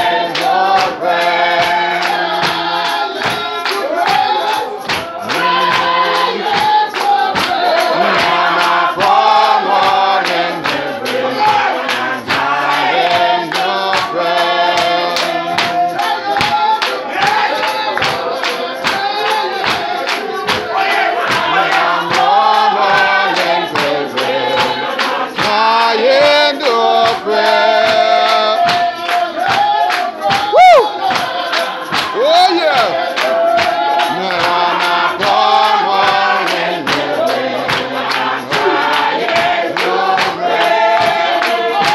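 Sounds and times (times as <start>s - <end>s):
congregation singing gospel song: 0.0s - 41.9s
steady percussive beat: 0.0s - 41.9s.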